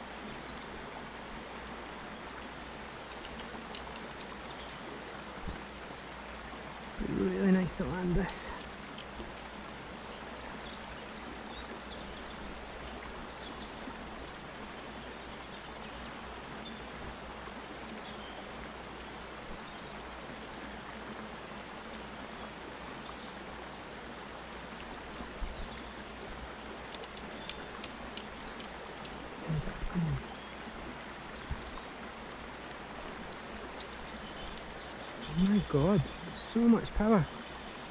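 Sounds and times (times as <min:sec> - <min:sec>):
river water running: 0:00.0 - 0:37.9.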